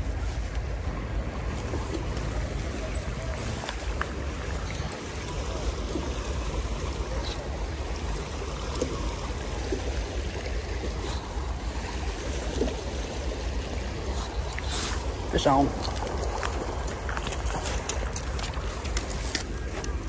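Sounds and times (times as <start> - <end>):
creek water rushing over gravel: 0.0 - 20.0.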